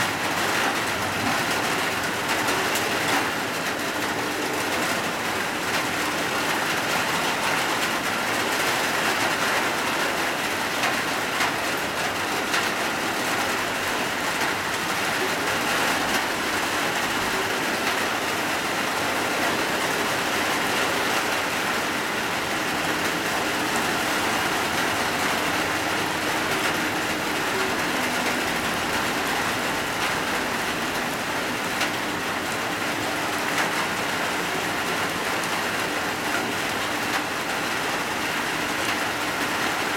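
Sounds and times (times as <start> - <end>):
heavy rain hissing: 0.1 - 39.9.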